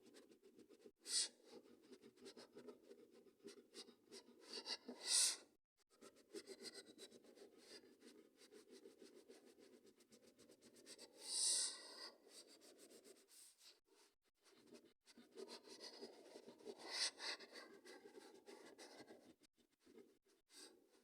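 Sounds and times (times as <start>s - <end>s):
pen scratching on paper: 0.0s - 5.4s, 6.0s - 13.4s, 14.4s - 20.8s.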